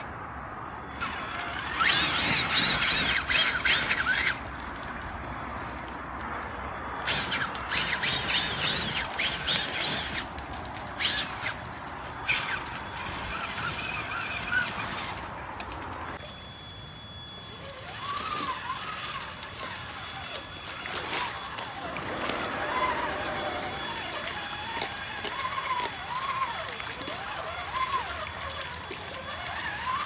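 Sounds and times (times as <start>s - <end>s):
electric motor whining: 0.8s - 30.0s.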